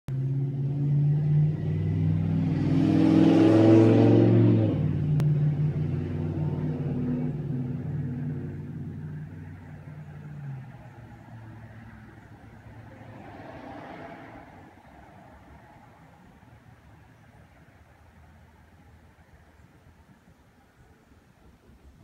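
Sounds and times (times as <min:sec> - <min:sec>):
vehicle engine passing: 0:00.1 - 0:19.6.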